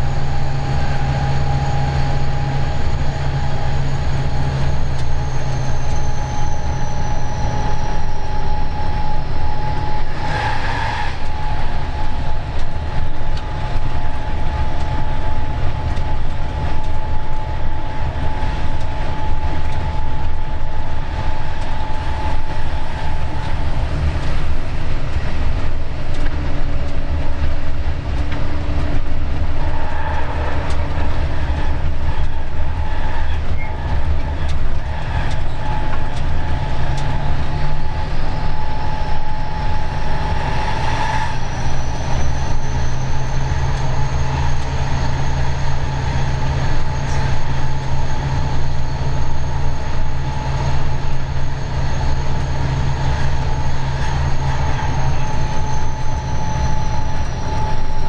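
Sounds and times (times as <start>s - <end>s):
high whine: 0.0s - 58.0s
locomotive engine drone: 0.0s - 58.0s
wheel noise on rails: 0.0s - 58.0s.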